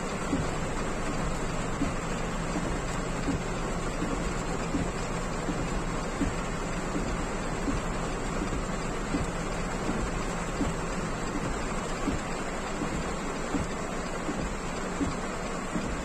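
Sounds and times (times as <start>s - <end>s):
heavy rain on car roof: 0.0s - 16.0s.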